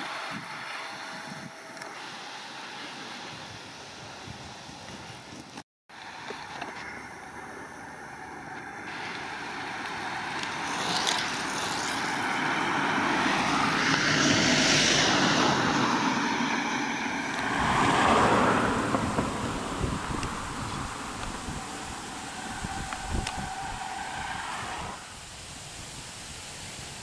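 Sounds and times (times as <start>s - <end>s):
van engine and tyre noise: 0.0s - 27.0s.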